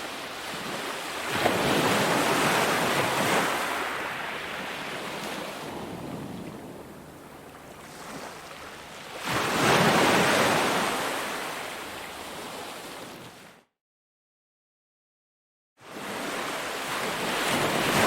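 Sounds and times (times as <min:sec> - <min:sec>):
ocean waves breaking: 0:00.0 - 0:13.5, 0:15.8 - 0:18.0.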